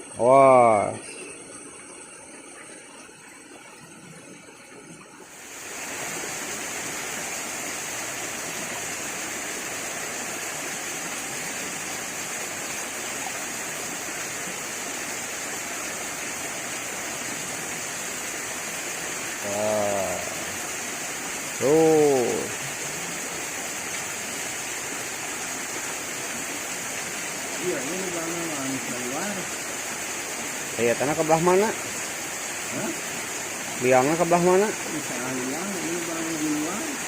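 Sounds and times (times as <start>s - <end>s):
flowing water rushing: 0.0s - 37.0s.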